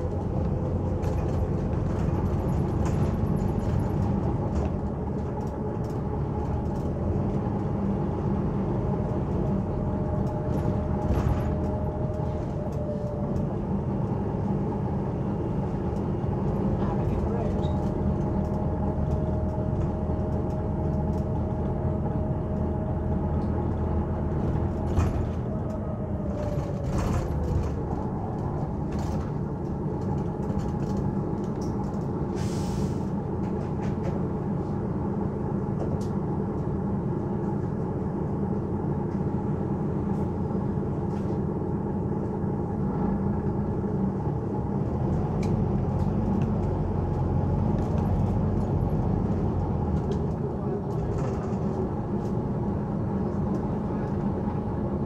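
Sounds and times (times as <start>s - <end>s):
diesel bus engine: 0.0s - 55.0s
road noise: 0.0s - 55.0s.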